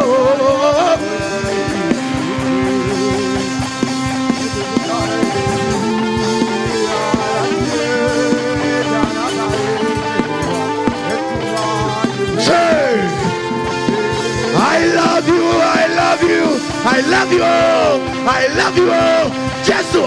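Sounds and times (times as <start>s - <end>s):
drum beat: 0.0s - 20.0s
worship band music: 0.0s - 20.0s.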